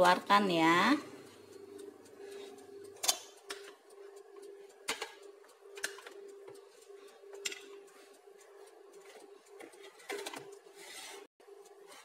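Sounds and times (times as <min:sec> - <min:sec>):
toaster oven humming: 0:00.0 - 0:12.0.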